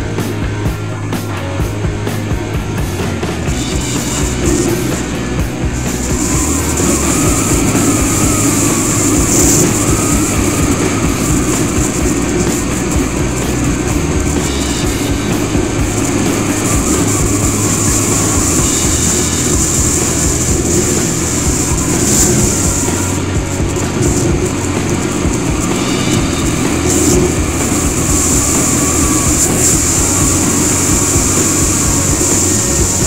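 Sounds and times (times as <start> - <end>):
motorcycle engine cruising: 0.0 - 33.0
road rumble: 0.0 - 33.0
wind on microphone: 4.0 - 33.0.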